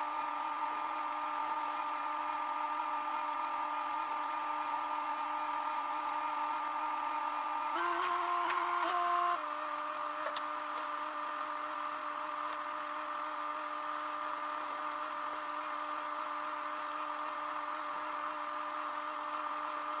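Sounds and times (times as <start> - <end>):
excavator running with whine: 0.0 - 20.0.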